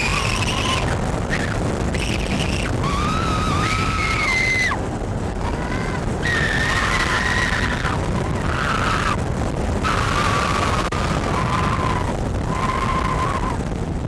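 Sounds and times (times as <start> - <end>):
riders screaming: 0.0 - 9.2, 9.8 - 13.6
roller coaster rumbling on track: 0.0 - 14.0.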